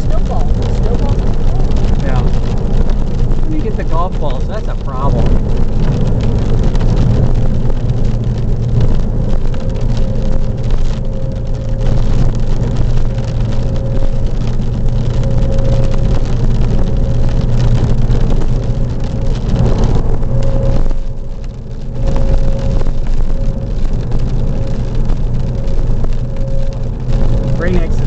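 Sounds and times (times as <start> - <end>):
car engine and tyre hum: 0.0 - 28.0
rain and wind against car: 0.0 - 28.0.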